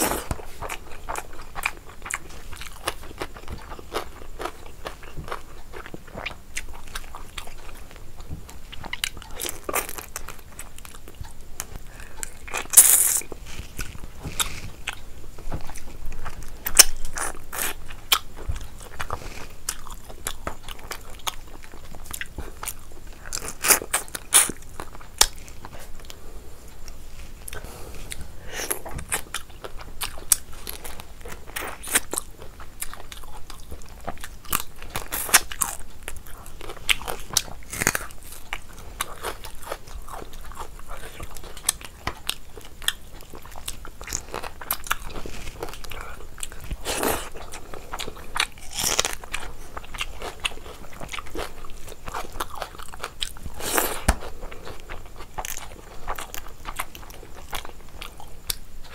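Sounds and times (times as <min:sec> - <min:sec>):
person chewing: 0:00.0 - 0:58.9.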